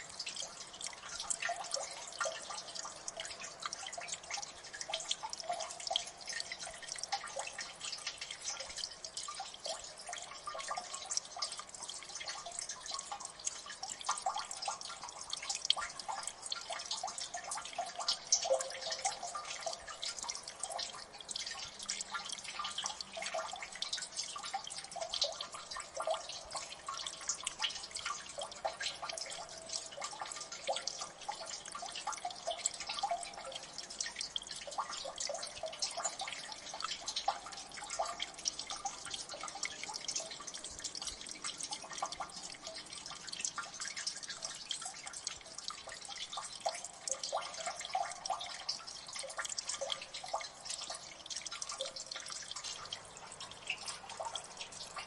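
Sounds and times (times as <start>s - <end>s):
faint trickling hiss: 0.0s - 55.0s.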